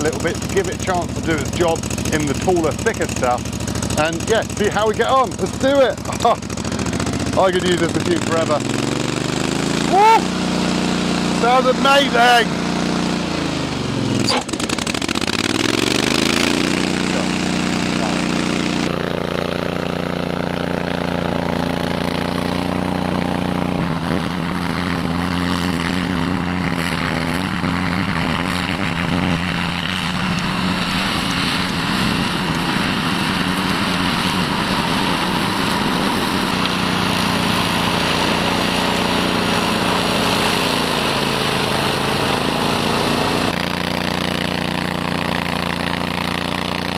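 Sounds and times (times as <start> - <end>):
mower cutting through bracken: 0.0 - 46.9
mower engine running hard: 0.0 - 46.9.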